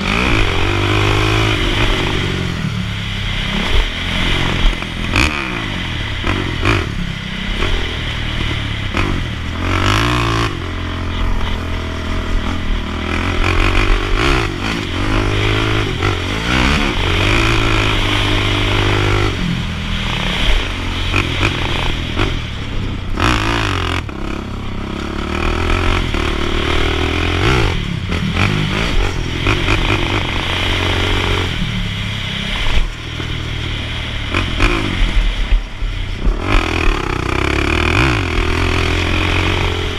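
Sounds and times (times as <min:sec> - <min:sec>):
quad engine revving: 0:00.0 - 0:35.6, 0:36.2 - 0:39.9.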